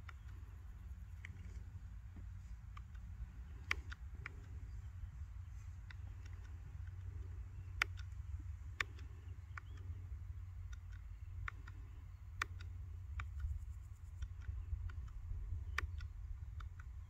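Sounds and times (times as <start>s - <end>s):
low steady rumble: 0.0s - 17.0s
switch buttons clicking: 2.2s - 17.0s.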